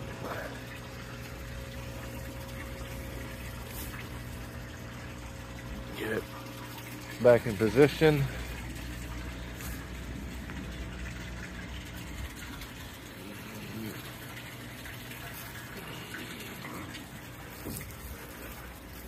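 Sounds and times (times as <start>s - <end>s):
water running into a tub: 0.0s - 19.0s.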